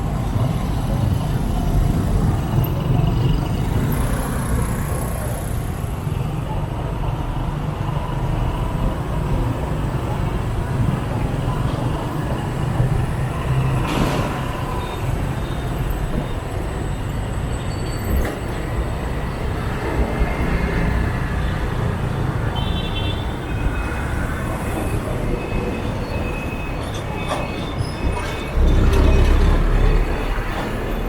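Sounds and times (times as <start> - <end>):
motorbike engines rumbling: 0.0 - 31.0
road noise: 0.0 - 31.0.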